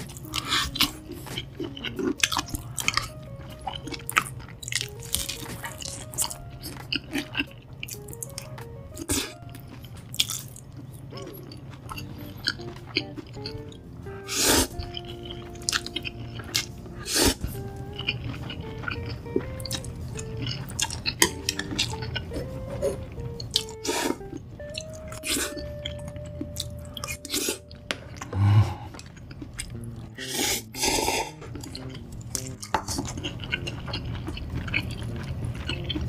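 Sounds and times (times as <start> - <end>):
background music: 0.0 - 36.0
noodles slurping: 0.0 - 36.0
wet chewing: 0.0 - 36.0.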